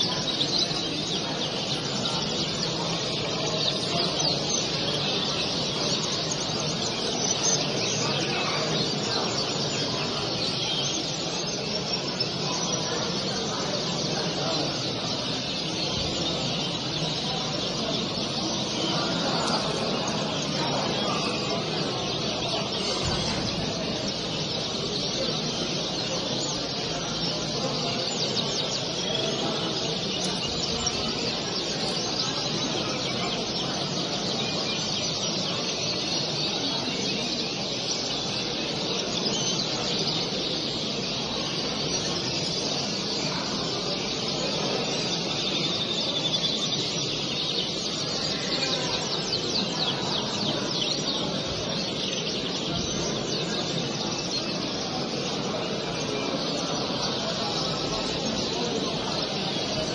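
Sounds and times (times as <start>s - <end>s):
low hubbub: 0.0s - 59.9s
songbirds chirping and singing: 0.0s - 59.9s.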